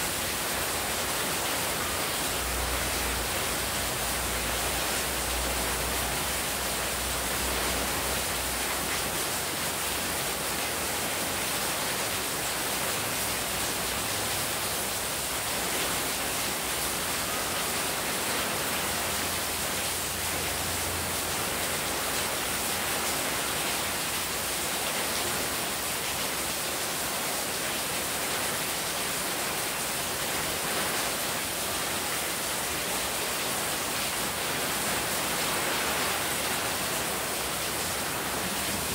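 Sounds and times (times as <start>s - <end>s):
heavy rain falling: 0.0s - 38.9s
water pouring and splashing: 0.0s - 38.9s.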